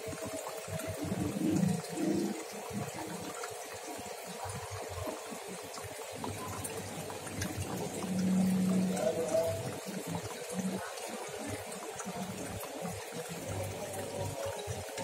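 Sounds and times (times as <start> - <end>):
aquarium water bubbling: 0.0 - 15.0
low gurgle: 0.0 - 15.0
steady hiss of moving water: 0.0 - 15.0.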